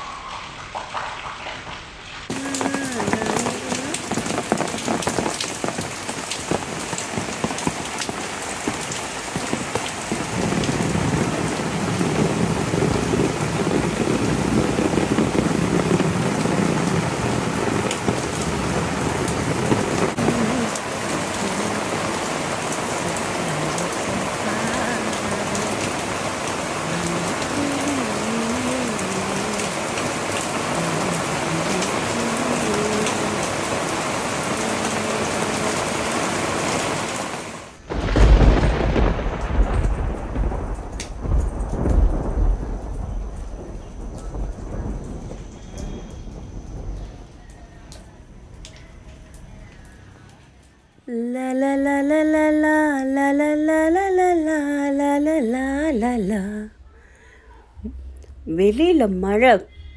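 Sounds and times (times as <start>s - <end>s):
heavy rain on leaves: 0.0s - 59.4s.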